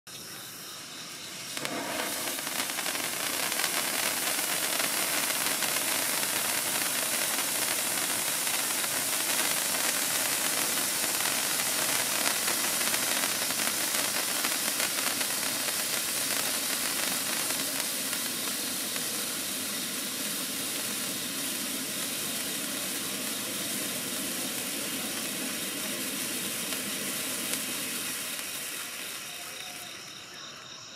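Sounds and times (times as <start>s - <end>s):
firework fountain hissing: 0.1s - 30.9s.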